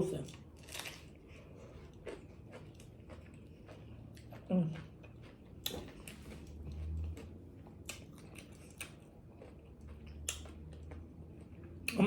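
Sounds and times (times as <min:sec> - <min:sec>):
chewing and biting crunches: 0:00.1 - 0:12.0.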